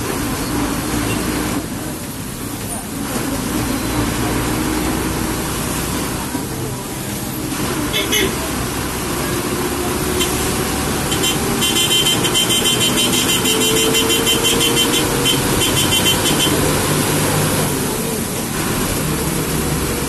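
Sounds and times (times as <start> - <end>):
bus engine running: 0.0 - 20.0
tyre noise on wet road: 0.0 - 20.0.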